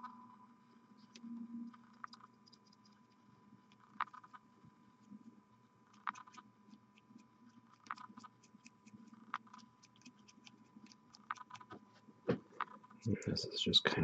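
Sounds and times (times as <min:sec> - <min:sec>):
faint steady hum: 0:00.0 - 0:14.0
paintbrush ticks and scratches: 0:01.0 - 0:12.0, 0:12.6 - 0:13.4.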